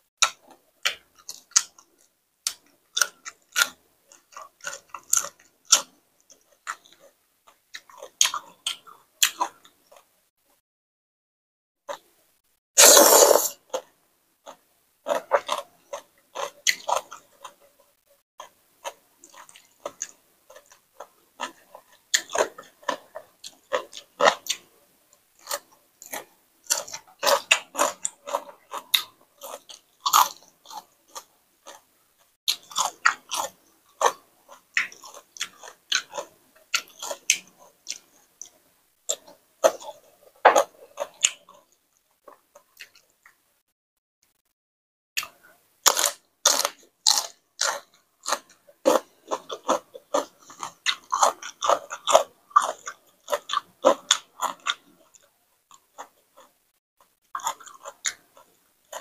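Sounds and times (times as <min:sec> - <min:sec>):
person chewing and smacking: 0:00.2 - 0:10.1, 0:14.5 - 0:17.6, 0:18.4 - 0:43.4, 0:45.2 - 0:59.0.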